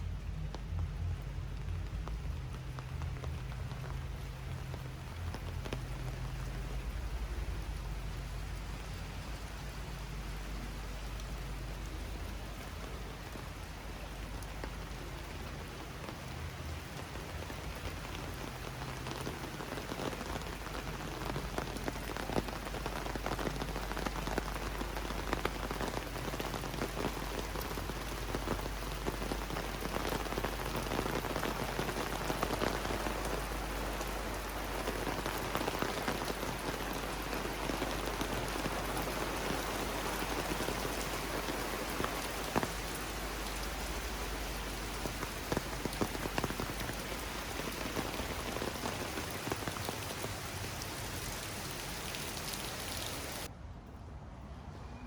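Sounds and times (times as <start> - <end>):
raindrops ticking close by: 0.0 - 54.0
steady rain falling: 0.0 - 54.0.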